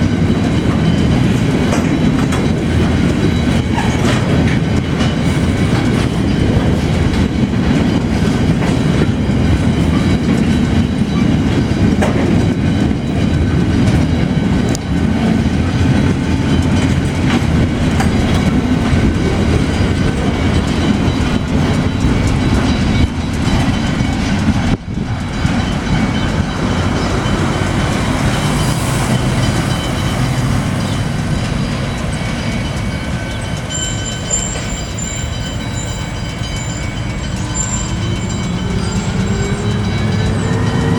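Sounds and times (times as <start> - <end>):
freight train wagons rumbling: 0.0 - 40.9.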